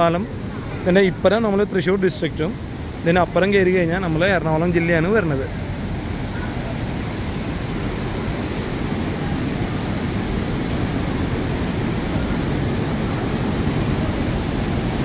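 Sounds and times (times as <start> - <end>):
flooded river rushing: 0.0 - 15.0.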